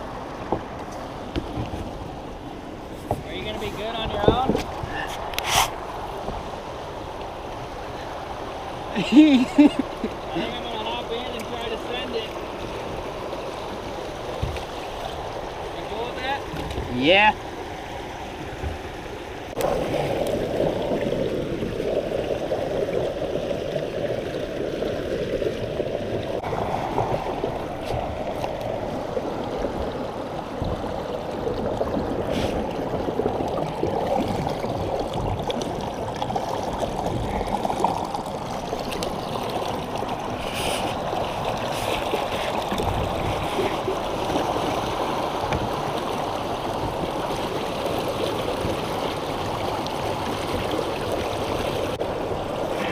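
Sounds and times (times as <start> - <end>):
water rushing over waterfall: 0.0 - 52.9.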